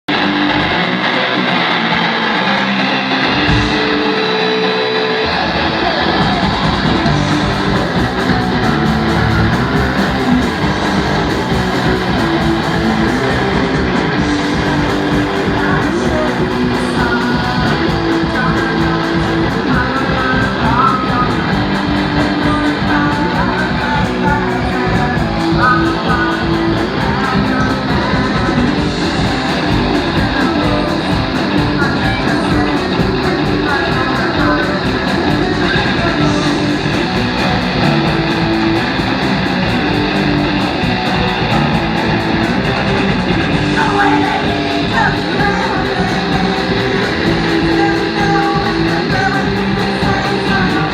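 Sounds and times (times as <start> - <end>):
electric guitar lead: 0.0 - 50.9
rock band playing live: 0.1 - 50.9.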